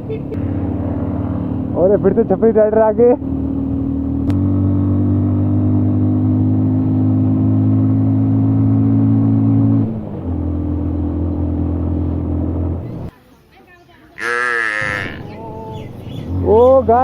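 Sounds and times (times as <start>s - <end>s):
motorcycle engine running: 0.0s - 13.1s, 15.1s - 17.0s.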